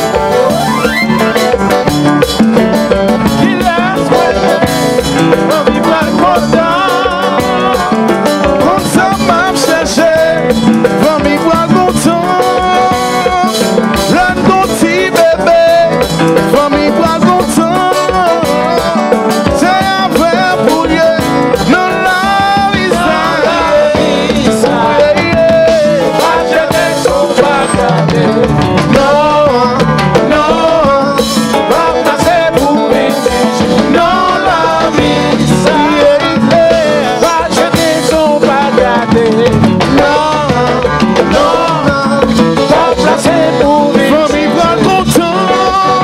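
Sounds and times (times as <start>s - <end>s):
live band playing: 0.0s - 46.0s
man singing into microphone: 3.1s - 46.0s.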